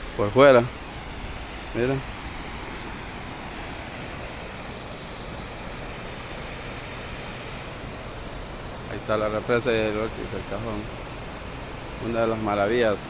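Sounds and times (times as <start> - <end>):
water rushing from dam: 0.0 - 13.0.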